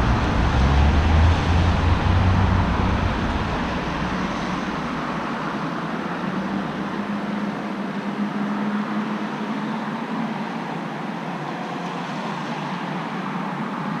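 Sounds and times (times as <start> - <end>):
road traffic hiss and hum: 0.0 - 14.0.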